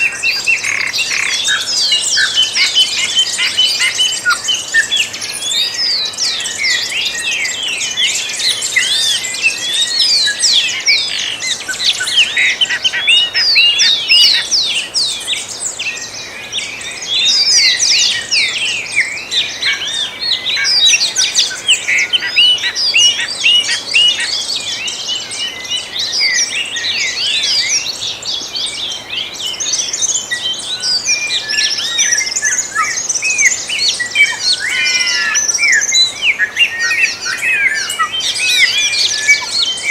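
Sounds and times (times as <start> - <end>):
birds chirping in dawn chorus: 0.0 - 39.9.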